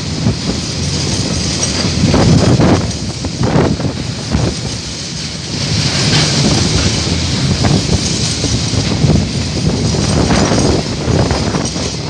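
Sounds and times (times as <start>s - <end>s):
train wheels rumbling on rail: 0.0s - 12.0s
wheels clacking over track joints: 0.0s - 12.0s.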